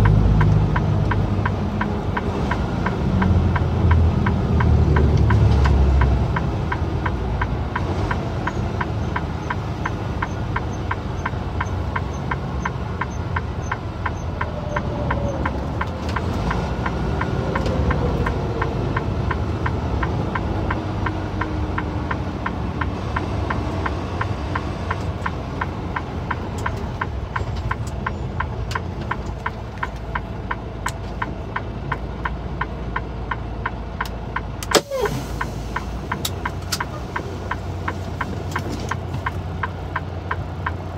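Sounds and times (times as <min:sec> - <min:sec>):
regular ticking: 0:00.0 - 0:34.7, 0:35.3 - 0:40.9
truck engine and road rumble: 0:00.0 - 0:40.9.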